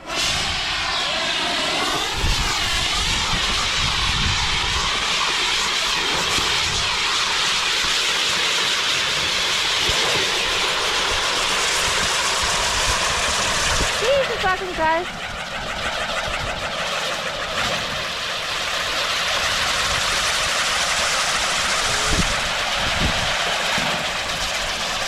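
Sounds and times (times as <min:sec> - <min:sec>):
firework fountain hissing: 0:00.0 - 0:25.0.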